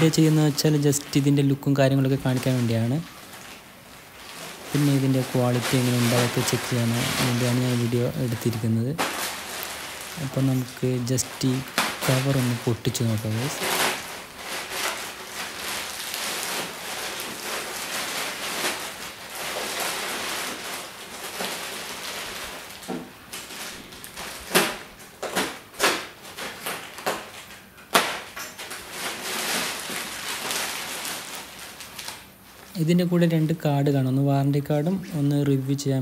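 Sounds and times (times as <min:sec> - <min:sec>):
plastic packaging crinkling: 0:00.0 - 0:36.0.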